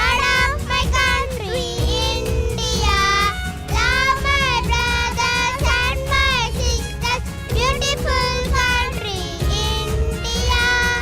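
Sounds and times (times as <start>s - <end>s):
backing music with steady beat: 0.0s - 11.0s
children singing: 0.0s - 11.0s.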